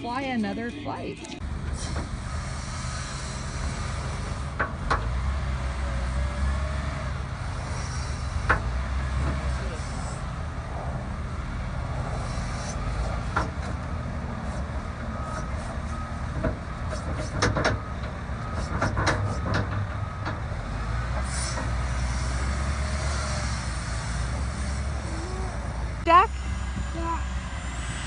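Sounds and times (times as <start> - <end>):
heavy machinery engine rumbling: 0.0 - 28.0.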